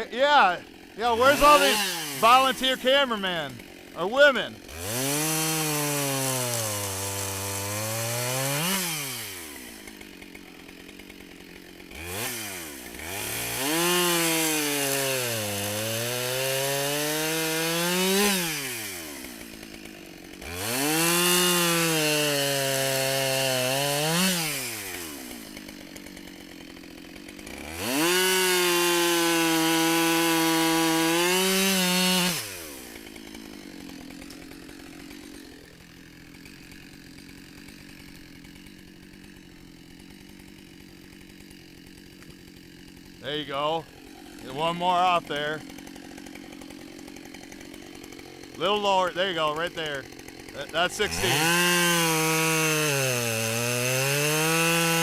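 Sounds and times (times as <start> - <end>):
chainsaw cutting wood: 0.0 - 55.0
chainsaw idling: 0.0 - 55.0.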